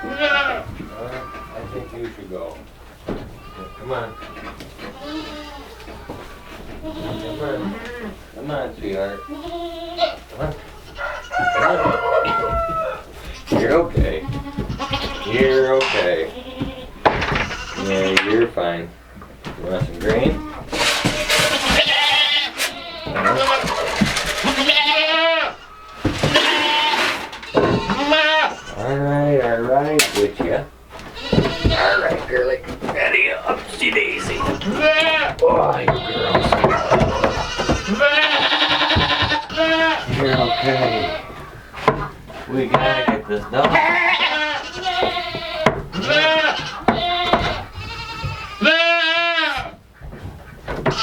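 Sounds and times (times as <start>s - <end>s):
goats bleating: 0.0s - 49.9s, 50.6s - 51.0s.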